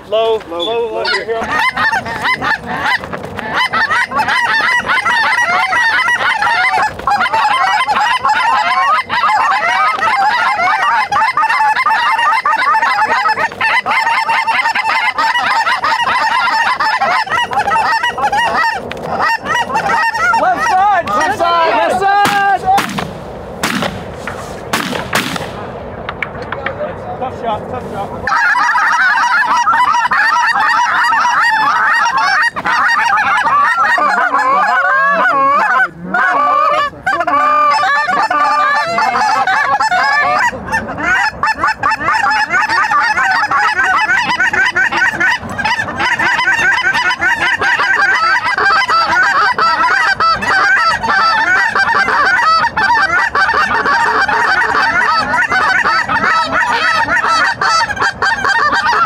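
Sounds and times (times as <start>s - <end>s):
geese honking and clucking: 0.0s - 59.0s
goose call blowing: 0.6s - 25.5s, 28.2s - 59.0s.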